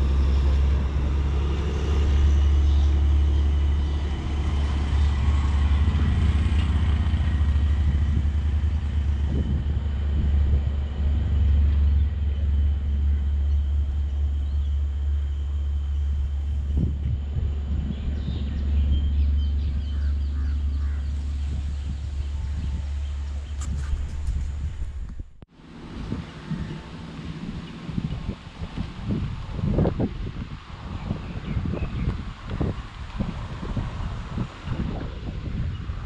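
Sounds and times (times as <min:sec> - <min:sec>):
diesel train engine running: 0:00.0 - 0:36.0
steady low rumble: 0:00.0 - 0:36.0.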